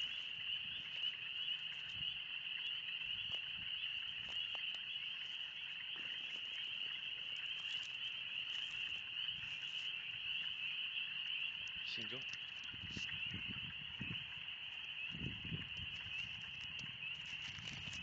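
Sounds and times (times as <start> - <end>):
chorus of frogs peeping: 0.0 - 18.0.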